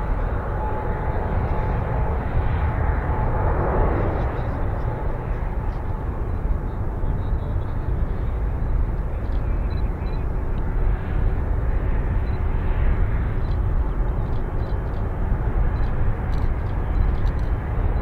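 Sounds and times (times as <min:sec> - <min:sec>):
airliner engines roaring: 0:00.0 - 0:18.0.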